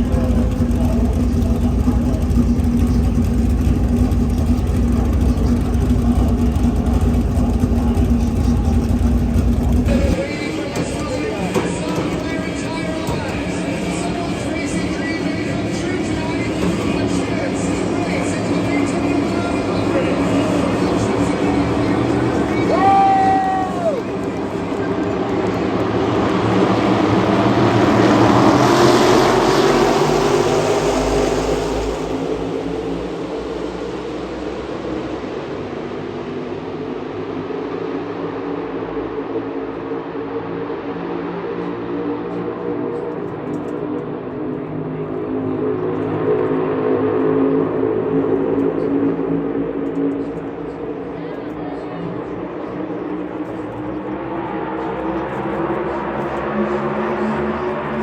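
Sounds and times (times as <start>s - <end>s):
race car engines running: 0.0s - 58.0s.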